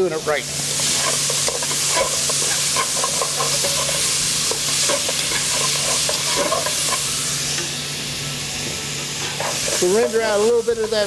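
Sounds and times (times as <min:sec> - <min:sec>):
bacon sizzling in hot oil: 0:00.0 - 0:11.0.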